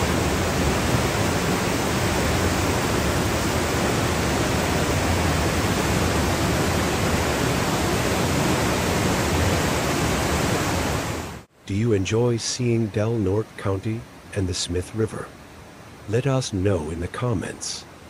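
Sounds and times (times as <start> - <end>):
river water rushing: 0.0 - 11.5, 13.5 - 18.0.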